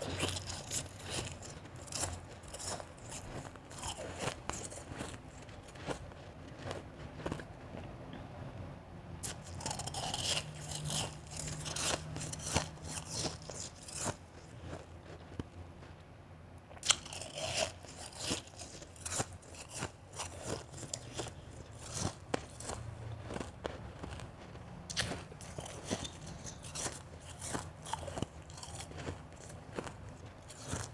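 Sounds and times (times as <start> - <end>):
crunching and chewing shaved ice: 0.0 - 7.9, 9.2 - 16.0, 16.7 - 30.9.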